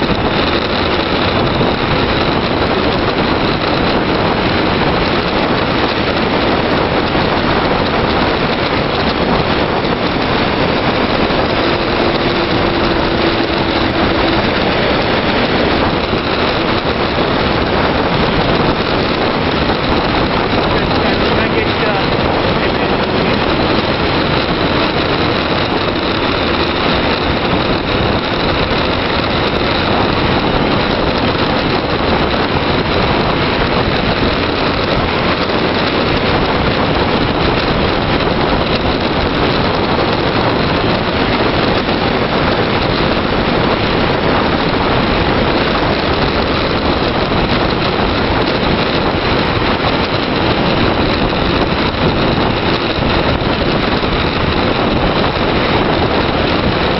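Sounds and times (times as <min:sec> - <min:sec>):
tyre noise on road: 0:00.0 - 0:56.9
wind rushing over microphone: 0:00.0 - 0:56.9.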